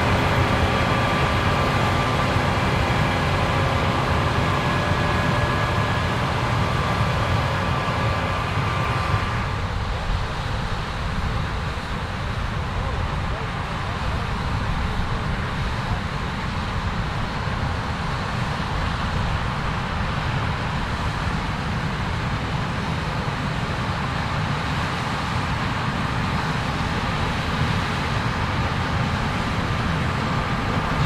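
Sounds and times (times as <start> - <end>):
farm machinery engine drone: 0.0 - 31.0.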